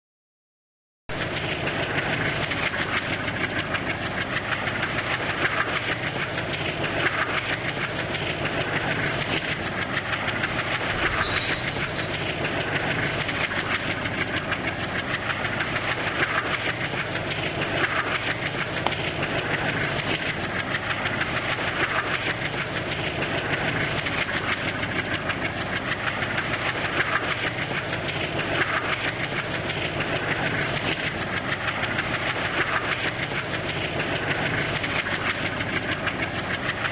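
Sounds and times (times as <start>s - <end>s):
train rumble: 1.1s - 36.9s
train wheels clacking: 1.2s - 36.9s.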